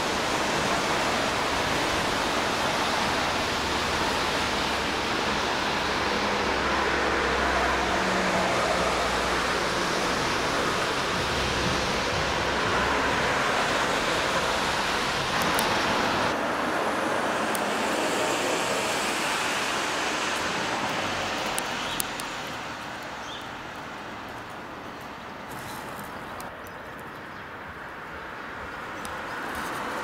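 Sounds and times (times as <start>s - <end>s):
street traffic hiss: 0.0s - 30.0s.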